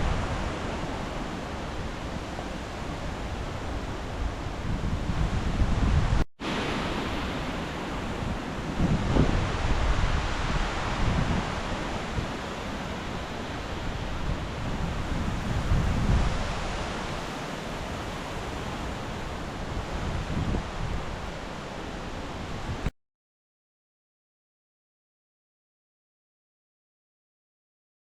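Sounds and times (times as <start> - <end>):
strong wind gusting: 0.0 - 22.9
wind buffeting microphone: 0.0 - 22.9.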